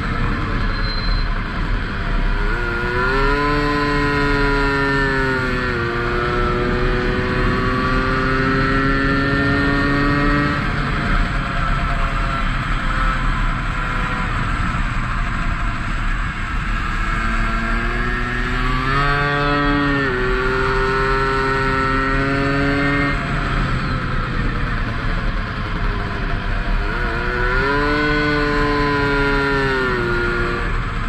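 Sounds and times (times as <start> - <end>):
two-stroke moped engine: 0.0 - 31.0.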